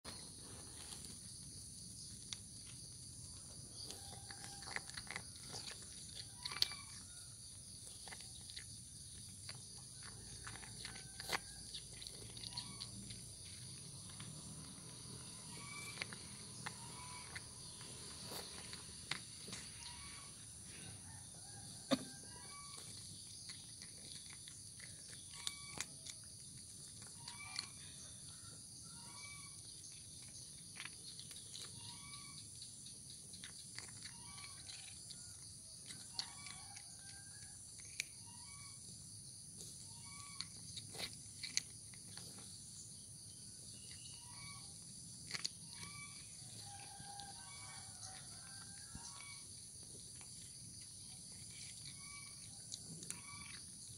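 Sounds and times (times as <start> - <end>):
cat crunching dry kibble: 0.1 - 21.5, 22.2 - 38.4, 39.5 - 53.9.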